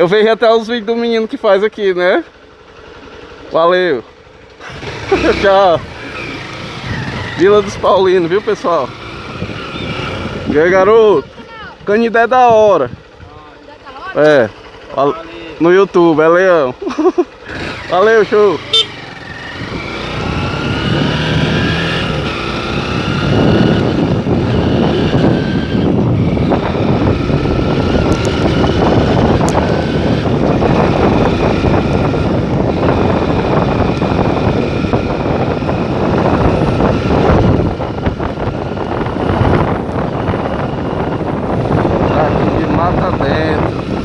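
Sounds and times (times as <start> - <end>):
road and wind noise: 0.0 - 44.0
vehicle engine running: 0.0 - 44.0.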